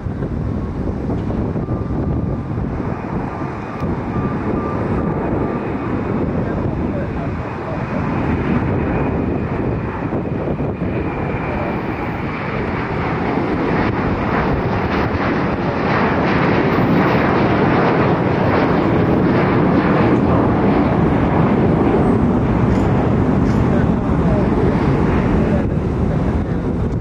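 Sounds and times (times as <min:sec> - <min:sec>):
jet engines at takeoff power: 0:00.0 - 0:27.0.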